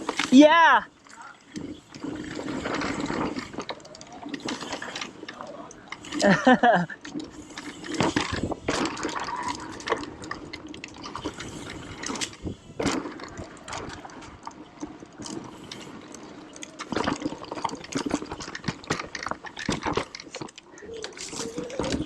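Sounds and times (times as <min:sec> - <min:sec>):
bike rattling over bumps: 0:00.0 - 0:22.0
bike tyres crunching on gravel: 0:00.0 - 0:22.0.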